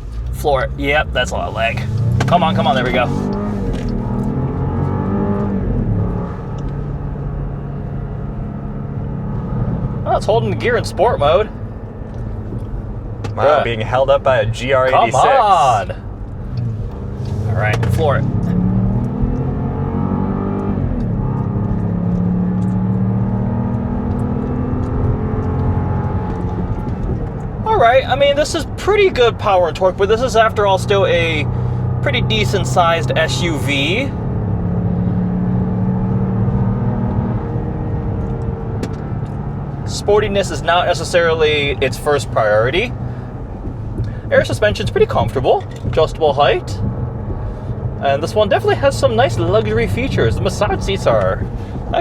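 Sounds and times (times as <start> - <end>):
car engine at full throttle: 0.0 - 52.0.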